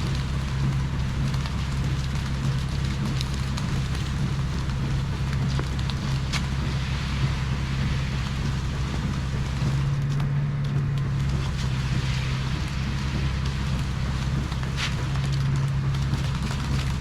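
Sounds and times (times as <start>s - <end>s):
steady hiss: 0.0s - 10.0s, 11.0s - 17.0s
diesel truck engine running: 0.0s - 17.0s.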